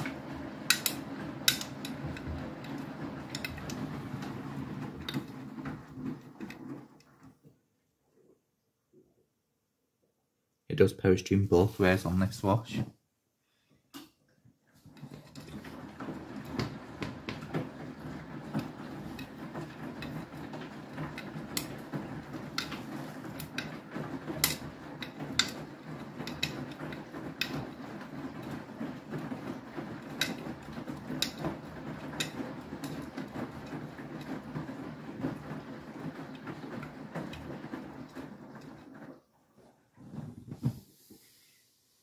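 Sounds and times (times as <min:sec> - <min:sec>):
washing machine drum humming: 0:00.0 - 0:07.8, 0:14.7 - 0:41.4.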